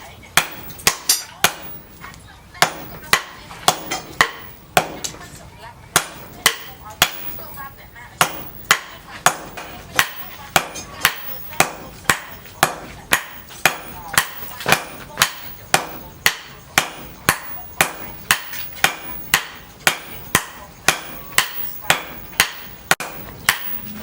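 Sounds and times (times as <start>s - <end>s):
hammer striking steel on anvil: 0.3s - 5.2s, 5.9s - 24.0s.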